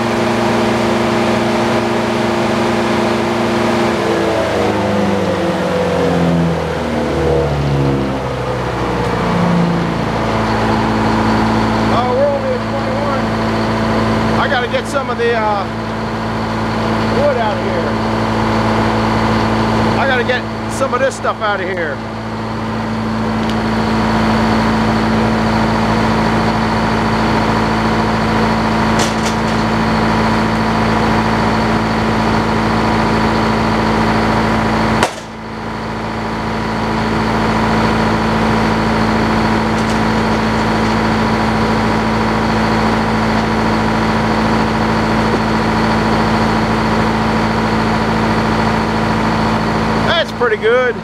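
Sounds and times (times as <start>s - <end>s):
circular sawmill humming: 0.0s - 51.0s.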